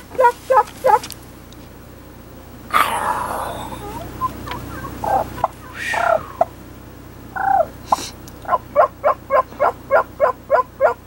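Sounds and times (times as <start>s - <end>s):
wild turkeys calling: 0.0s - 1.2s, 2.7s - 11.0s.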